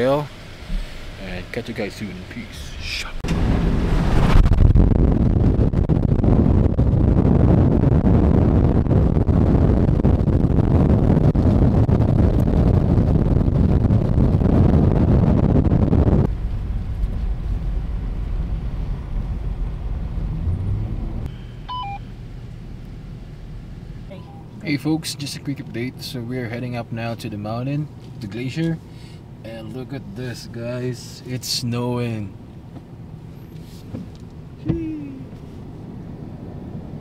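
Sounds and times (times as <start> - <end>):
vehicle engine and road rumble: 0.0 - 37.0.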